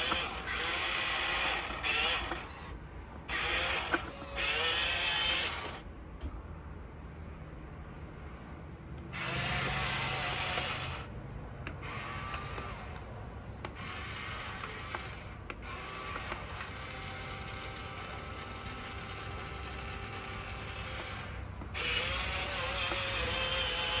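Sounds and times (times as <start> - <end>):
toy truck motors whining: 0.0 - 5.9, 9.0 - 24.0.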